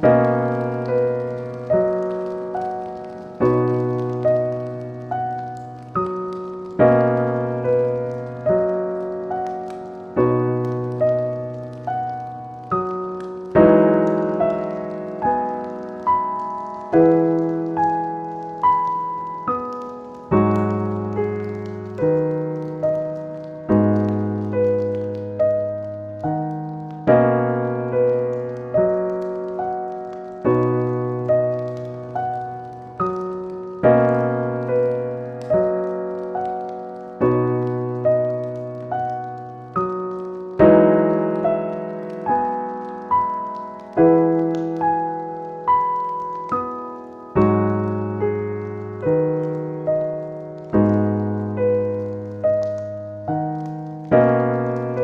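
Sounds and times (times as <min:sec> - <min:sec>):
gentle solo piano: 0:00.0 - 0:55.0.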